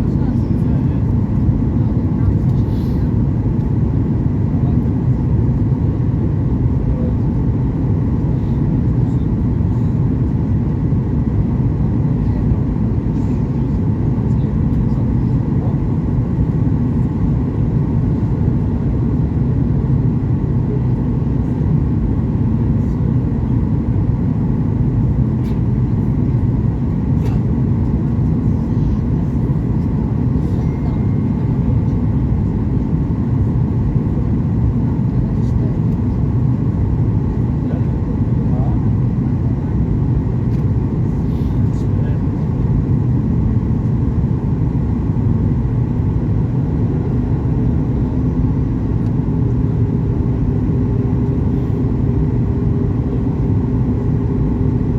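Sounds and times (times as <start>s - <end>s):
airliner cabin noise in flight: 0.0s - 54.9s.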